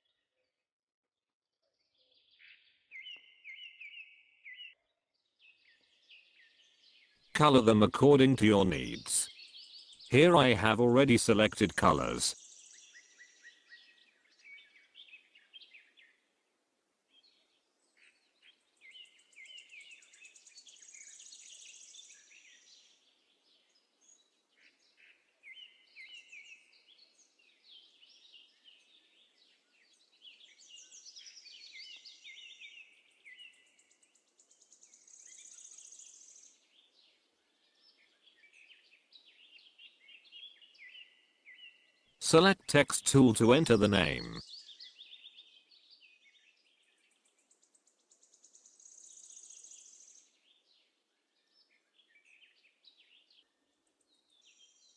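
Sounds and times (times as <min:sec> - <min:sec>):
faint birdsong chirps and trills: 0:00.0 - 0:00.7, 0:01.5 - 0:42.2, 0:44.0 - 0:54.9.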